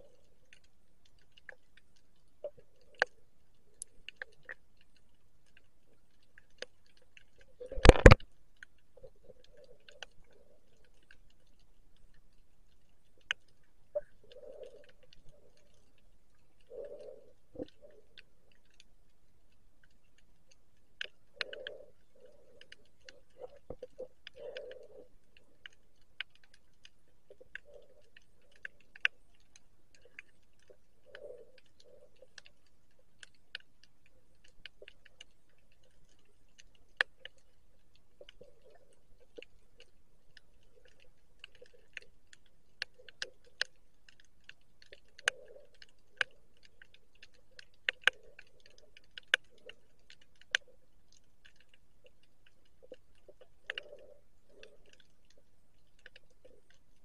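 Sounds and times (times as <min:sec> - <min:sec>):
underwater clicks and snaps: 0:00.0 - 0:57.0.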